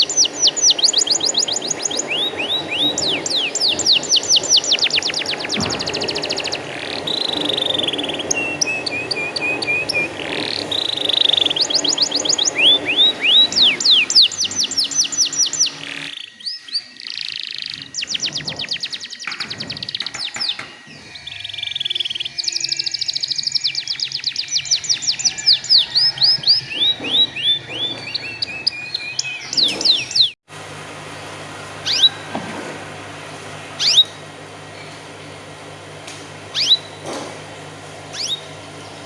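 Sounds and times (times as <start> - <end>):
canary singing trills: 0.0 - 30.4, 31.8 - 32.3, 33.8 - 35.0, 36.5 - 37.0, 38.0 - 39.0.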